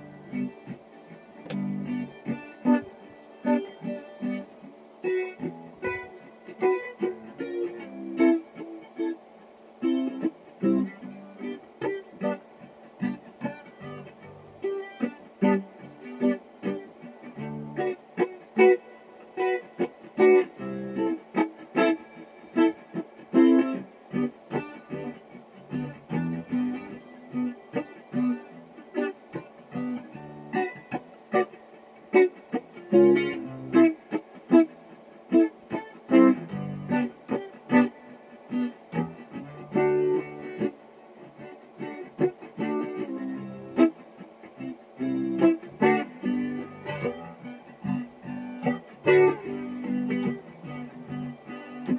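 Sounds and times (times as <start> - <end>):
guitar playing notes and chords: 0.0 - 51.9.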